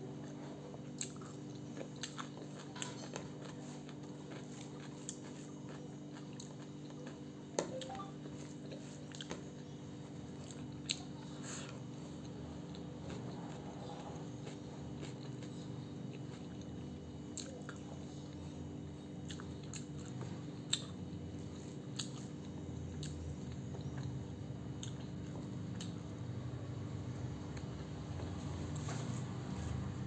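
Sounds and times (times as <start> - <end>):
steady low hum: 0.0 - 30.0
person chewing food: 0.2 - 26.3.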